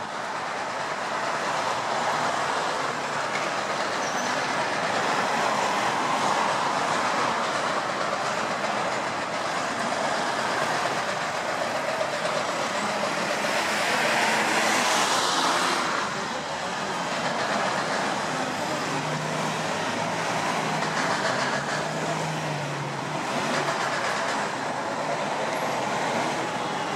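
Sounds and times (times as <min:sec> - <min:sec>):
trucks and cars running: 0:00.0 - 0:26.9.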